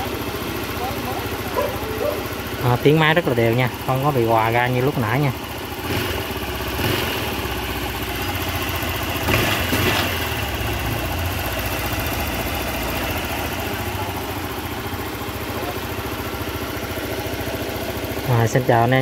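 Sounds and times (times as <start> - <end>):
scooter engine idling: 0.0 - 19.0.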